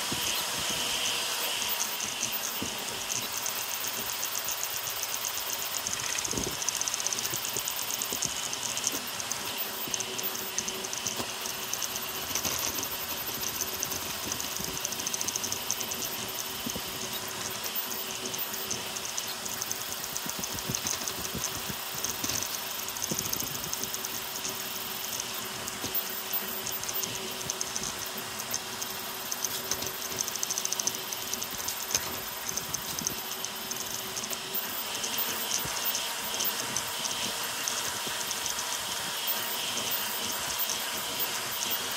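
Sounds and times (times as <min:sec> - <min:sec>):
cooling fan hiss: 0:00.0 - 0:41.9
steady hum: 0:00.0 - 0:41.9
stepper motors buzzing: 0:00.0 - 0:41.9.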